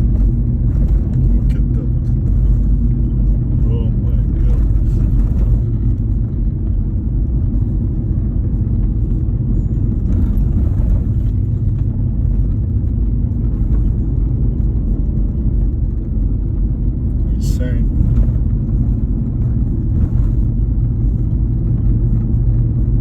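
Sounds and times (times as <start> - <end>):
engine drone: 0.0 - 23.0
road noise inside vehicle: 0.0 - 23.0.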